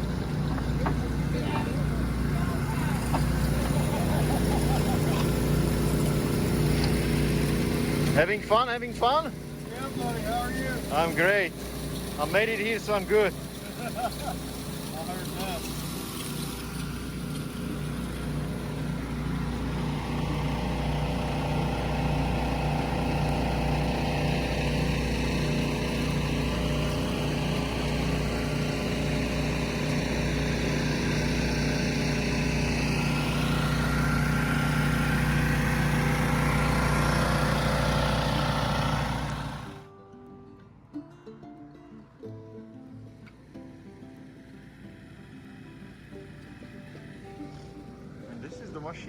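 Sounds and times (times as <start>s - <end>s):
small engine running steadily: 0.0s - 39.9s, 43.2s - 49.0s.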